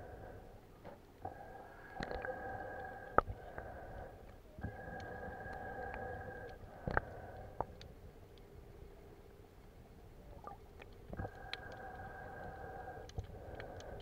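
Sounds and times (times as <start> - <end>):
underwater hum: 0.0 - 14.0
faint clicks: 0.8 - 9.4, 10.4 - 14.0.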